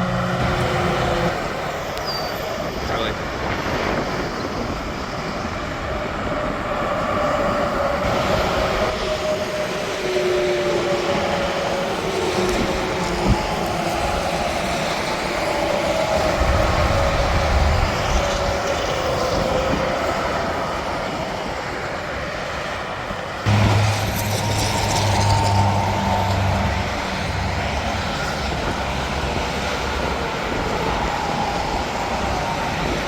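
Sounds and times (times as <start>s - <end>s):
highway traffic passing: 0.0s - 2.0s, 2.6s - 33.0s.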